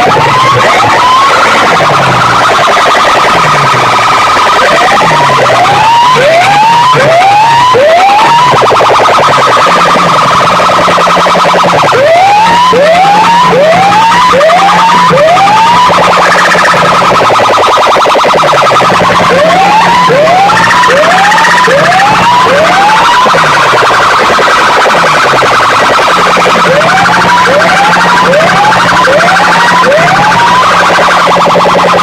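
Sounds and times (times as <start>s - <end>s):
siren-like rising whoops: 0.0s - 32.0s.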